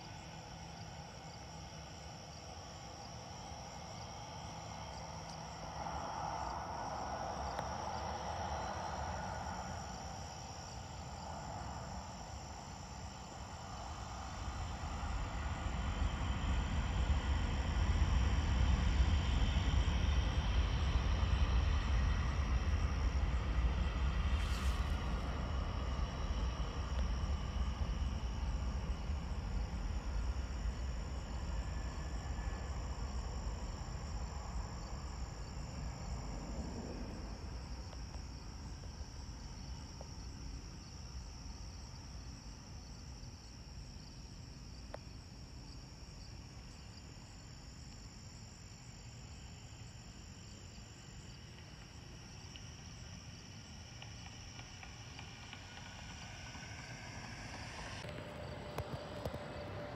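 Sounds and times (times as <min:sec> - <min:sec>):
jet engines rumbling: 0:00.0 - 0:45.9, 0:46.5 - 0:59.9
insects chirping: 0:00.0 - 0:59.9.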